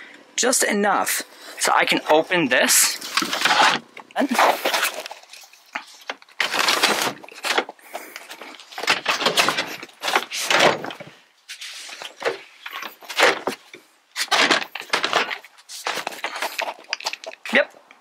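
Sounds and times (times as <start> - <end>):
rustling of plastic and upholstery: 1.6 - 17.5.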